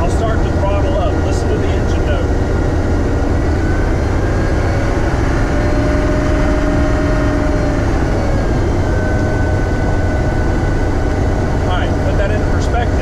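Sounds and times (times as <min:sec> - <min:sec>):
diesel engine droning: 0:00.0 - 0:13.0
faint drivetrain whine: 0:00.0 - 0:13.0.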